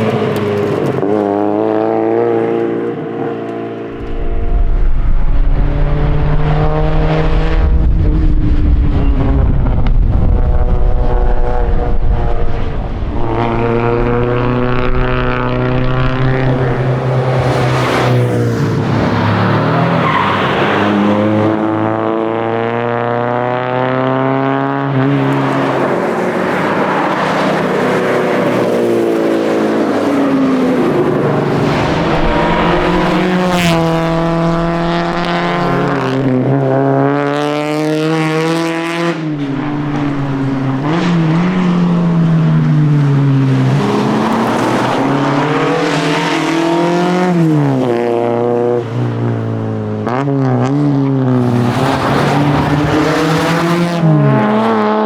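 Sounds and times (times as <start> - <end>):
car engine revving hard: 3.9 - 48.8, 49.9 - 55.0.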